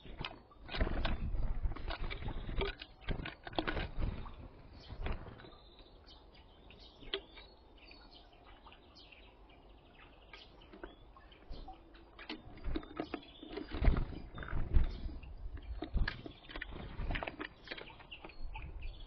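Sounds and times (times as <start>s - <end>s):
birds pecking at feeder: 0.0s - 7.9s, 9.3s - 19.0s
songbirds chirping: 0.0s - 19.0s.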